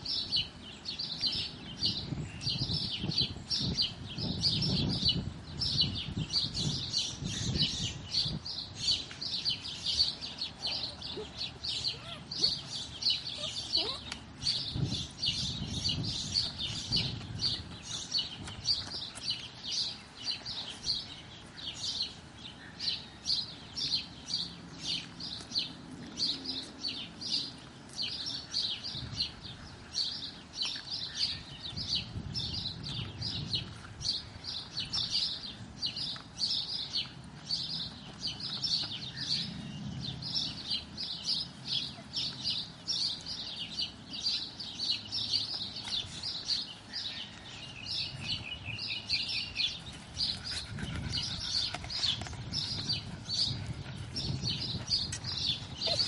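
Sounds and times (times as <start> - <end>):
small birds chirping: 0.0 - 56.0
puppies scuffling on dirt: 2.2 - 56.0.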